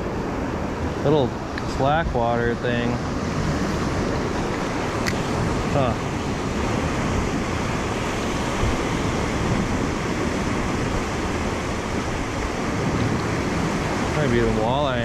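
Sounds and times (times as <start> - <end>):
river water rushing: 0.0 - 15.0
wind on microphone: 0.0 - 15.0.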